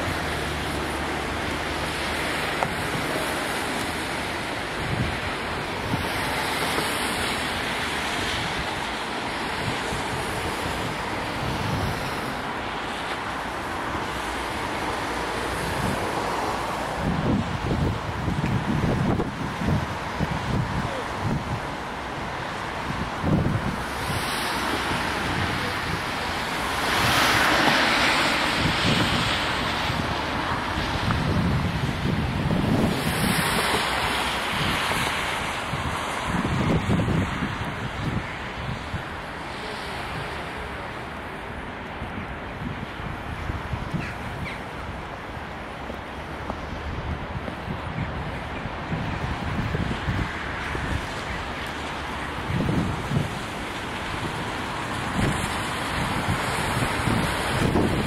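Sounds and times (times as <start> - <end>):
distant road traffic: 0.0 - 58.0
steady rushing noise: 0.0 - 58.0
wind buffeting microphone: 0.0 - 58.0.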